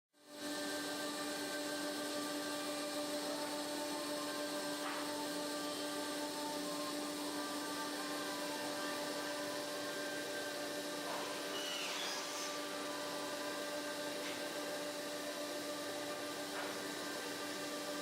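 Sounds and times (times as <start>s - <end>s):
machine hum and hiss: 0.2s - 18.0s.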